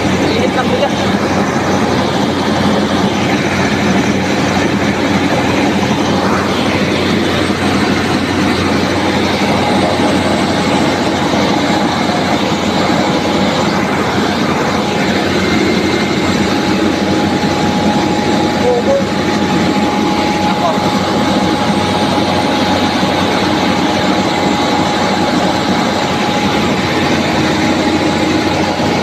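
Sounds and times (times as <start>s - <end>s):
rice milling machine running: 0.0s - 29.0s.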